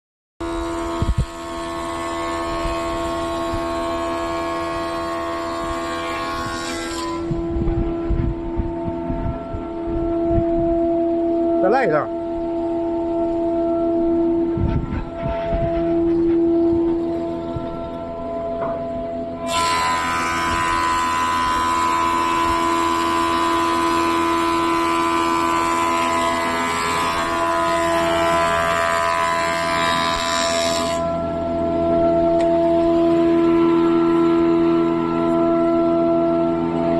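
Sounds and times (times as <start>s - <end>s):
thickness planer whining: 0.4s - 36.9s.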